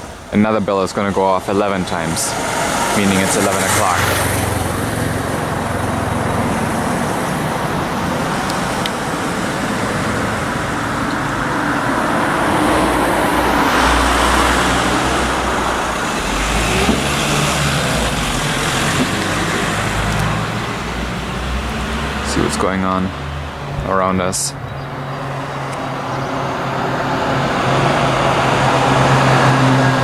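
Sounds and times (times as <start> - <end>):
road traffic noise: 0.0 - 30.0
vehicle passing: 0.0 - 30.0.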